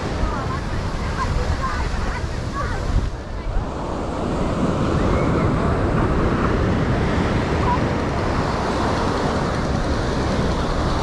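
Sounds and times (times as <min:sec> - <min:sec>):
surf: 0:00.0 - 0:11.0
wind buffeting microphone: 0:00.0 - 0:11.0.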